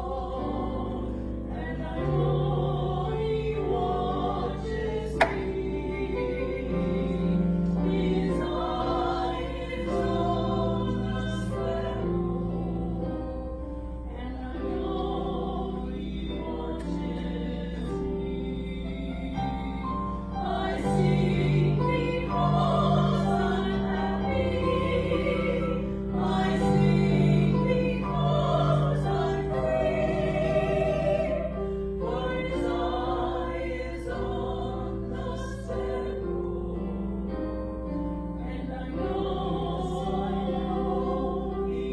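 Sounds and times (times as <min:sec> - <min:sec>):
choir singing church music: 0:00.0 - 0:41.9.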